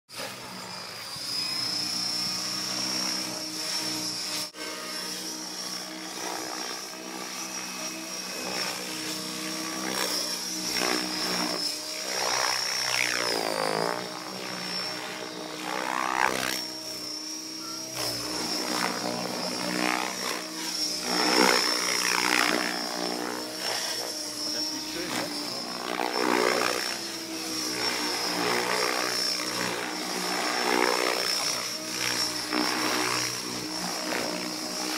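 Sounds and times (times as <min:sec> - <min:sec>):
model helicopter motor whine: 0:00.1 - 0:34.9.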